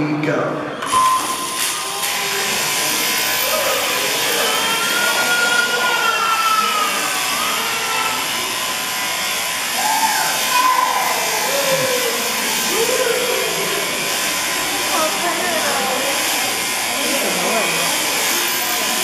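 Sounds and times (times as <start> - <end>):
electric shearing handpiece whirring: 0.8 - 19.0.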